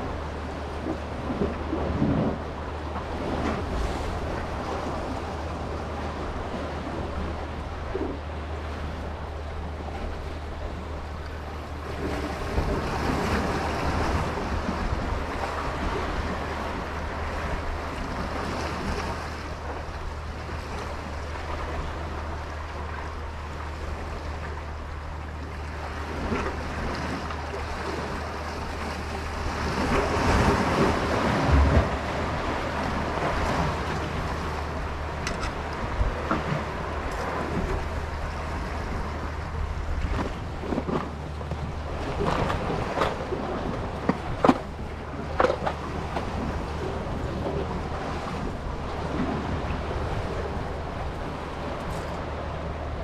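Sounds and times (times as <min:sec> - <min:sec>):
sea waves washing: 0:00.0 - 0:53.0
wind buffeting microphone: 0:00.0 - 0:53.0.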